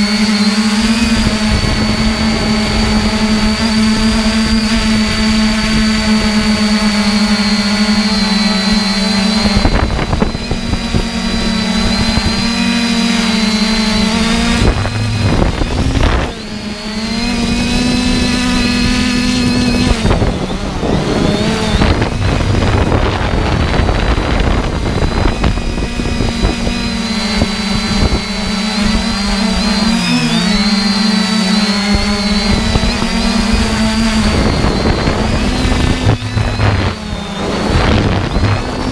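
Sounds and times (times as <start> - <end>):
drone motors humming: 0.0 - 38.9
wind noise on microphone: 0.0 - 38.9.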